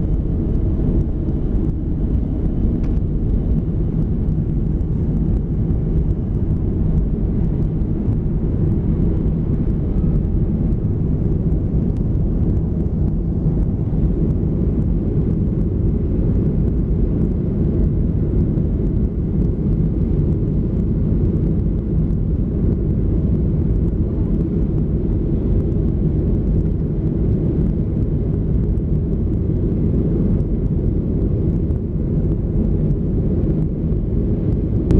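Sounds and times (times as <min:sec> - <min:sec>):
airplane cabin rumble: 0:00.0 - 0:34.9.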